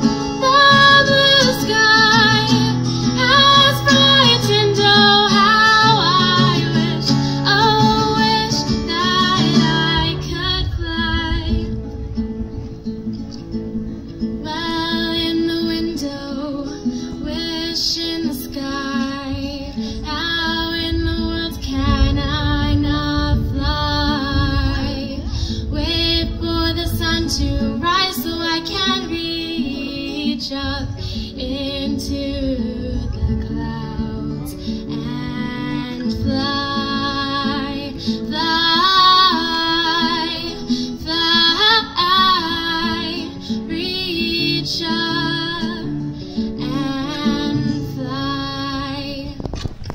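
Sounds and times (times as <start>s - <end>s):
woman singing: 0.0s - 11.9s, 14.3s - 49.6s
acoustic guitar: 0.0s - 49.9s.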